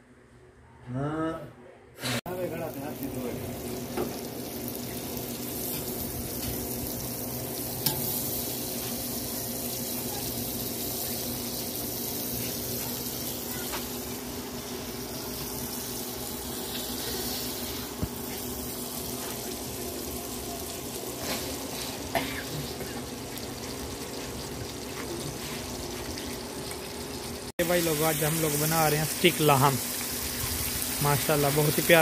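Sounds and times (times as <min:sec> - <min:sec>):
butter sizzling on griddle: 0:02.3 - 0:32.0.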